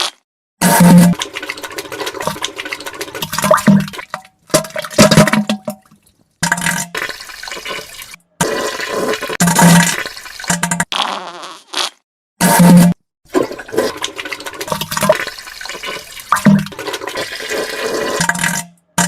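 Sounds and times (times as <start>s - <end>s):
wet sputtering into toilet water: 0.6s - 11.4s, 12.4s - 19.0s.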